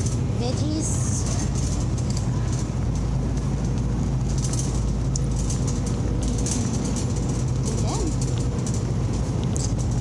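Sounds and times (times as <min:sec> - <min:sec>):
shopping cart rolling: 0:00.0 - 0:10.0.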